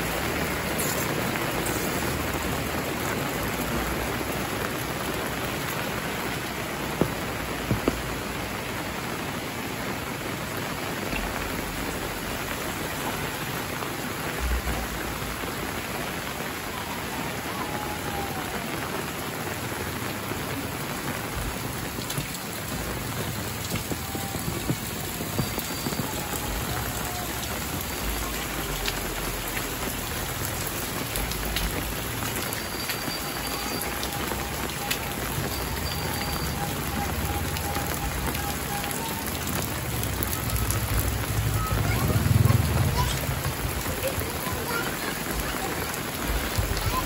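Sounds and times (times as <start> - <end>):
rain on metal roofs: 0.0 - 47.0.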